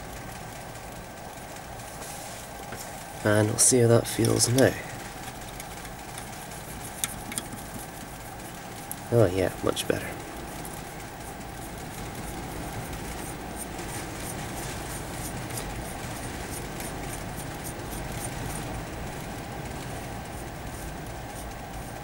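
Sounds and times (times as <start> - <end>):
machine whirring: 0.0 - 22.0.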